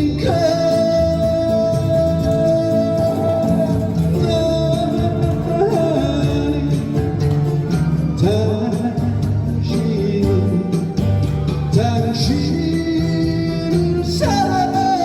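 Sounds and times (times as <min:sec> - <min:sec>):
live band playing slow ballad: 0:00.0 - 0:15.0
person singing: 0:00.0 - 0:15.0.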